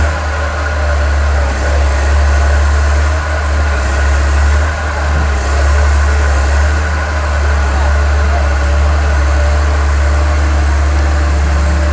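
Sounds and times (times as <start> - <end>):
diesel engine droning: 0.0 - 11.9.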